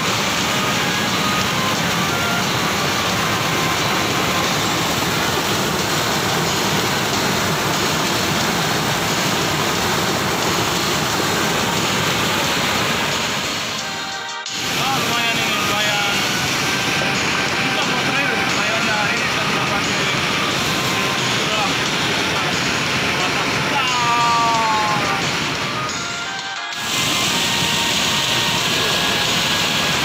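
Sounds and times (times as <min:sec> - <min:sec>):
stream water rushing over rocks: 0:00.0 - 0:13.9, 0:14.5 - 0:25.9.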